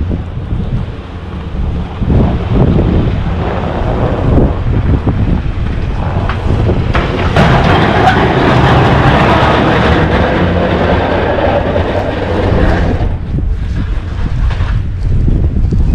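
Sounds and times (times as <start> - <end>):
rushing noise: 0.0 - 15.5
wind buffeting microphone: 0.0 - 15.9.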